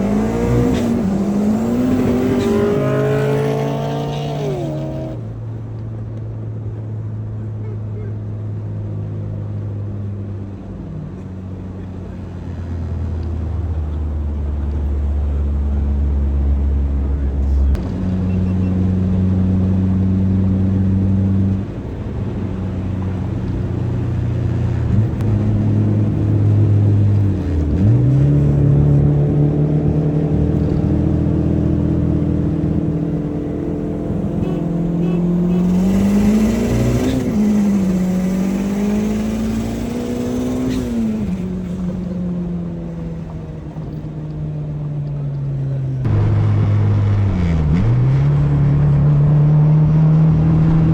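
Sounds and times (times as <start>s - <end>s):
car engine revving: 0.0s - 5.6s, 8.3s - 50.9s
car engine running: 0.0s - 50.9s.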